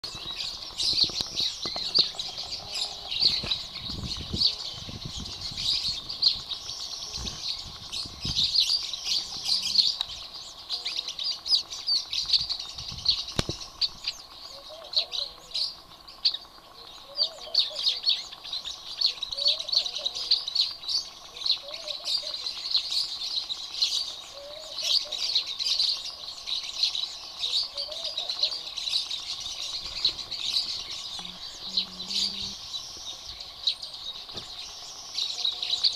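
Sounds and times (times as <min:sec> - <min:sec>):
low bird call: 0:00.0 - 0:35.9
small birds chirping: 0:00.0 - 0:35.9.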